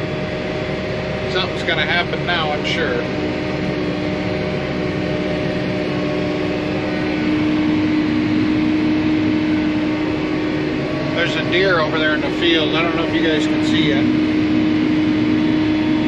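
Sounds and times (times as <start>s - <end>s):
sprayer machine humming: 0.0s - 16.0s.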